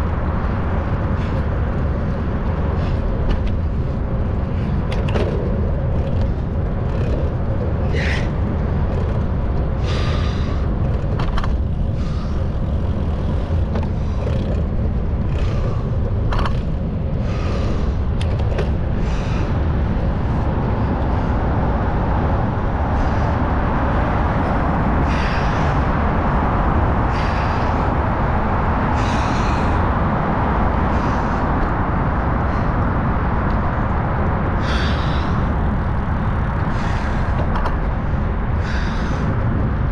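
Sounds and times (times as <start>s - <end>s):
bicycle clicks and rattles: 0.0s - 29.8s, 32.5s - 39.5s
wind rumbling on microphone: 0.0s - 39.9s.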